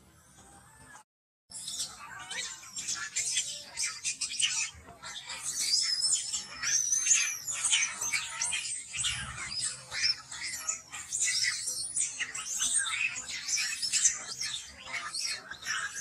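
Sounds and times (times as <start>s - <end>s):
animal chirps and squeaks: 1.5s - 16.0s.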